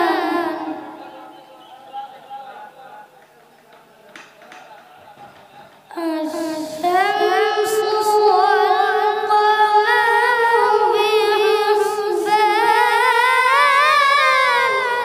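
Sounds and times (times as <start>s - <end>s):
boy chanting melodically: 0.0s - 3.2s, 4.4s - 15.0s.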